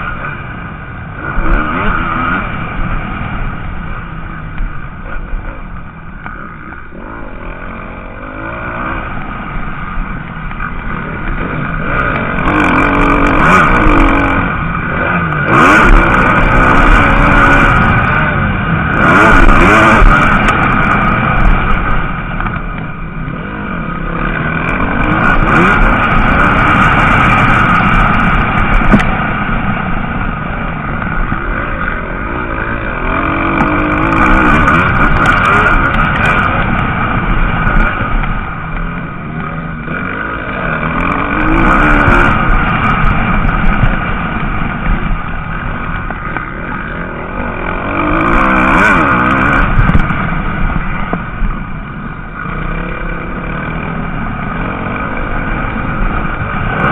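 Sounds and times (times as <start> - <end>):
motocross bikes revving: 0.0 - 56.9.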